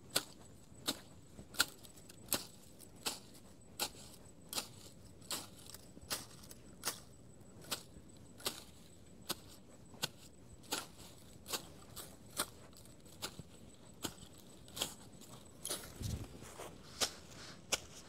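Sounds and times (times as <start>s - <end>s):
hand blade cutting grass: 0.1s - 18.0s.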